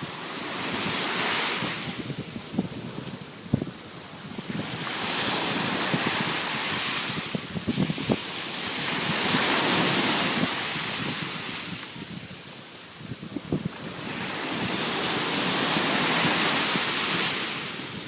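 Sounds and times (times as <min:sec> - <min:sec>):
waves breaking on beach: 0:00.0 - 0:18.0
wind buffeting microphone: 0:00.0 - 0:18.0.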